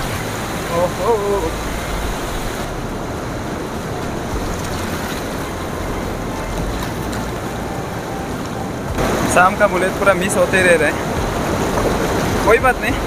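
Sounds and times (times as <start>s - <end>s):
heavy rain pouring: 0.0s - 13.0s
wind buffeting microphone: 0.0s - 13.0s.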